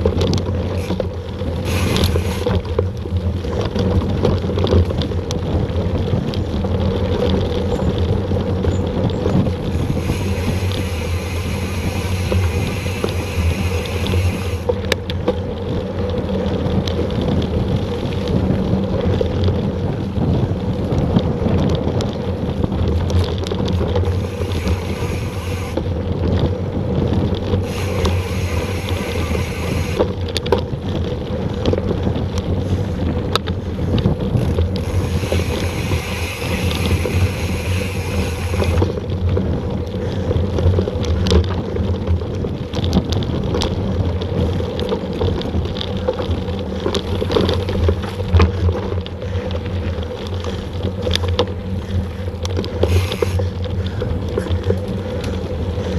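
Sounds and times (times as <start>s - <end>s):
bike frame rattling and clicking: 0.0s - 55.9s
knobby tyres rumbling over dirt: 0.0s - 55.9s
wind buffeting microphone: 0.0s - 55.9s.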